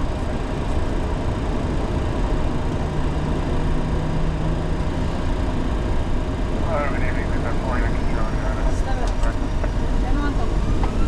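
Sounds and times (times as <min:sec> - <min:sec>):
jet engine and airflow rush: 0:00.0 - 0:11.0
low rumble: 0:00.0 - 0:11.0.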